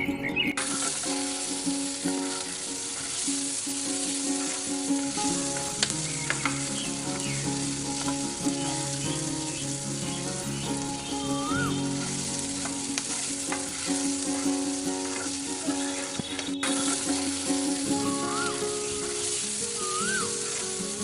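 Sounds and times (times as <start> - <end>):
food sizzling in hot oil: 0.6 - 21.0.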